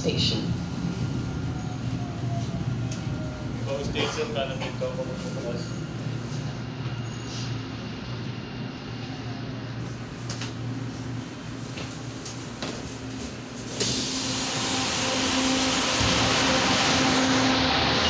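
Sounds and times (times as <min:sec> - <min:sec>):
stopped train hum inside car: 0:00.0 - 0:18.0.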